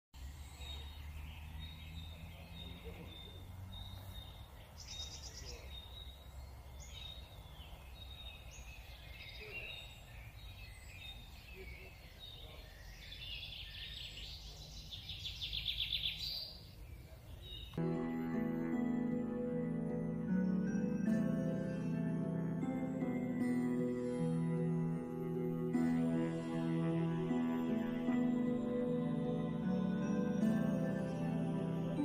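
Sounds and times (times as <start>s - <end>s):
birds chirping: 0.2s - 32.0s.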